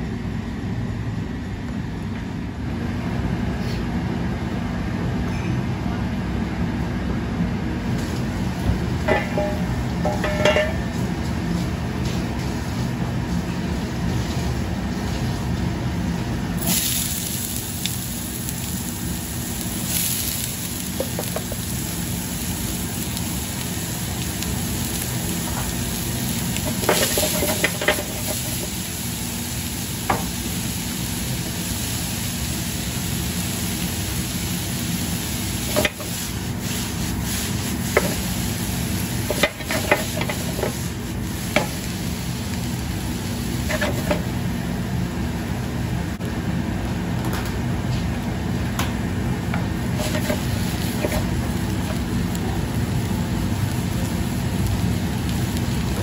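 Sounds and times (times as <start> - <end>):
onions sizzling in hot oil: 7.8 - 47.2, 47.8 - 56.0.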